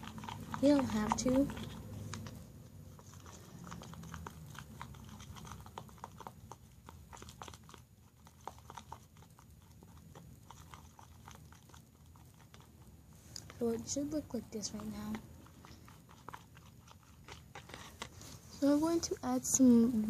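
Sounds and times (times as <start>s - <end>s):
spoon stirring slime in bowl: 0.0s - 19.9s.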